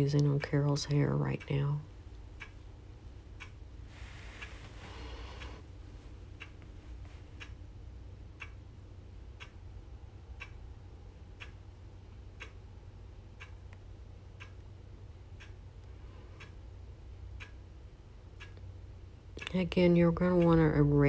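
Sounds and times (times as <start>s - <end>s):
clock ticking: 0.0s - 3.8s, 4.4s - 5.7s, 6.3s - 21.0s
faint low hum: 0.0s - 21.0s.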